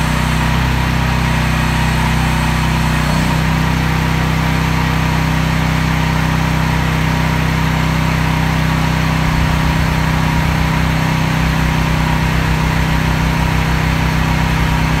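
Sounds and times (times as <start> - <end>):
mini excavator engine idling: 0.0 - 15.0.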